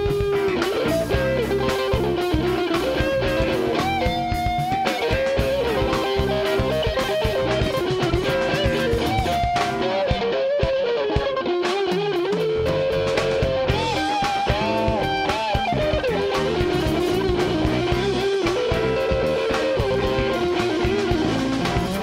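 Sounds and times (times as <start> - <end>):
electric guitar lead with bending notes: 0.0 - 22.0
live electric blues band: 0.0 - 22.0.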